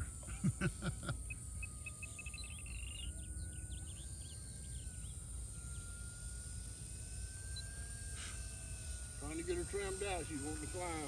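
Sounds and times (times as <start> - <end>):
electric motor whine: 0.0 - 11.0
songbird singing: 0.9 - 11.0.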